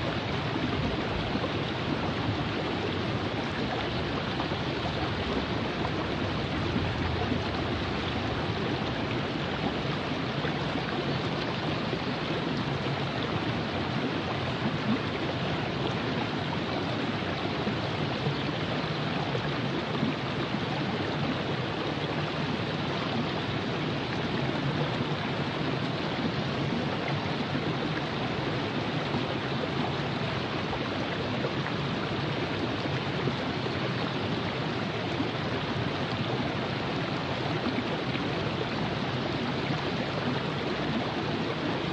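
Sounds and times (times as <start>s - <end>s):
river running over rocks: 0.0s - 41.9s.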